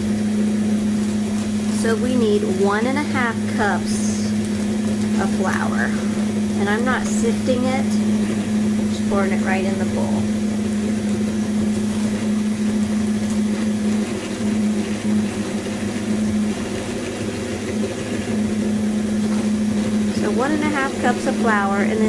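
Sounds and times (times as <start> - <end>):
beaters churning batter: 0.0 - 22.0
stand mixer motor humming: 0.0 - 22.0.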